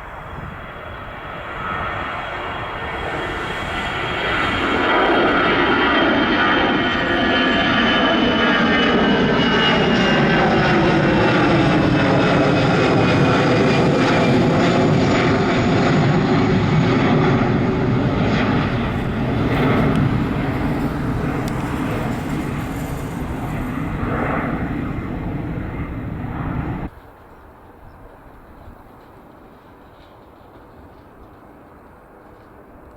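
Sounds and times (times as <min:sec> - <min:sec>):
jet airliner passing by: 0:00.0 - 0:27.0.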